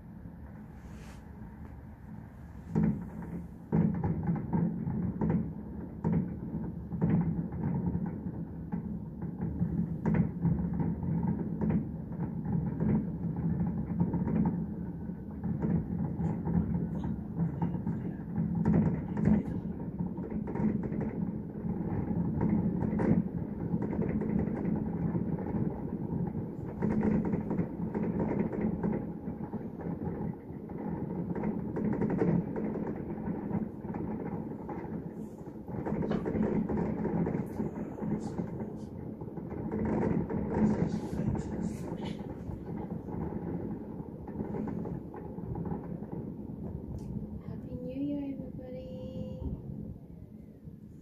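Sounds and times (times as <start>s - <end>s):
muffled fireworks booms and crackles: 0.0s - 51.0s.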